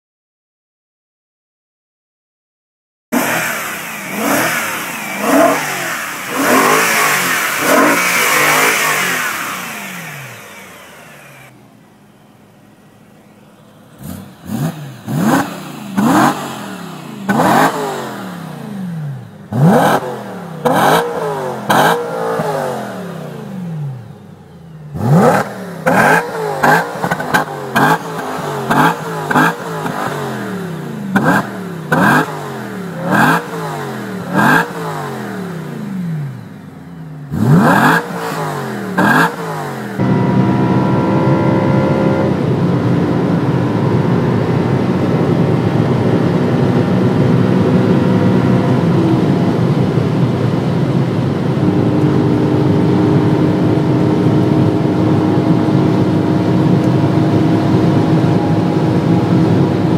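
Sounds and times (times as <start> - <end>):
car engine revving: 3.1 - 59.9.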